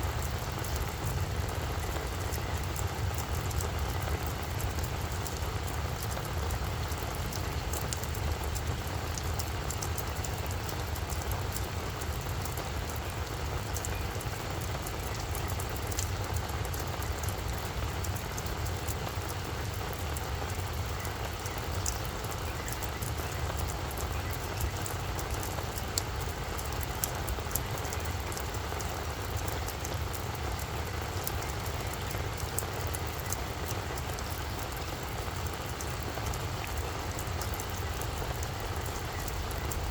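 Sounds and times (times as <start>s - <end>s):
rain falling on plants: 0.0s - 39.9s
sharp ticks of raindrops: 0.0s - 39.9s.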